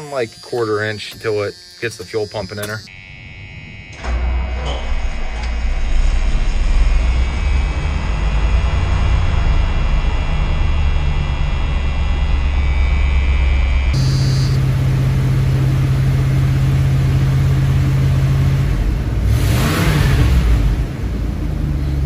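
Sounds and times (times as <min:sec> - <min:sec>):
pickup engine starting and running: 0:03.8 - 0:22.0.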